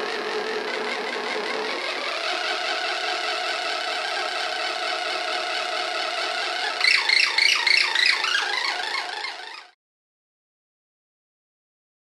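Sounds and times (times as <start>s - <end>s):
stuttering squeaky chirps: 0.0s - 9.8s
synth buzzing drone: 0.0s - 9.8s.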